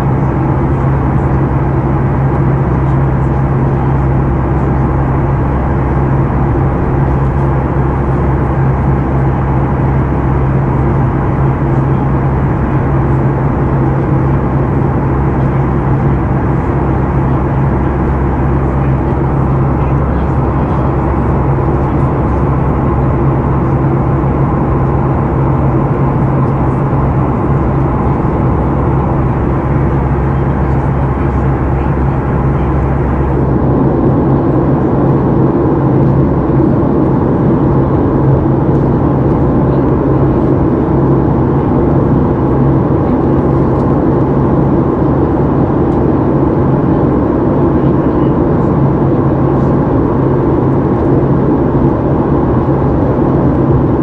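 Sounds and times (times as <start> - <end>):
jet engines humming: 0.0 - 54.0
rushing airflow: 0.0 - 54.0.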